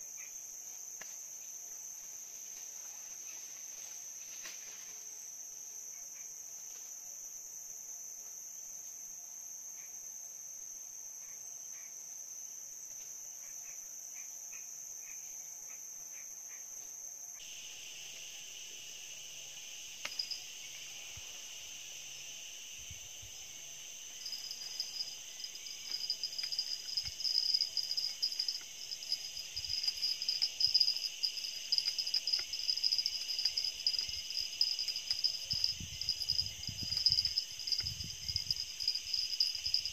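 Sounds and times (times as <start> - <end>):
high-pitched insect chorus: 0.0 - 7.9, 8.5 - 39.9
rapidly pulsing insect call: 0.0 - 39.9.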